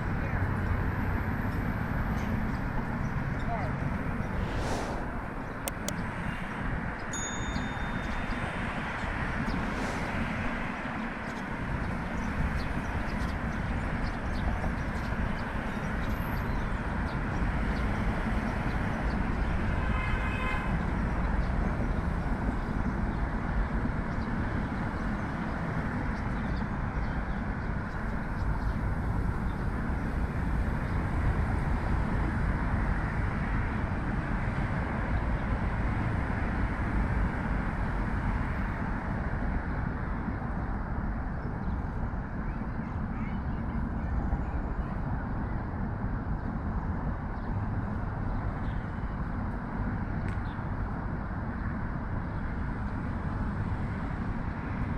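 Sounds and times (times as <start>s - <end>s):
heavy road traffic roar: 0.0s - 54.9s.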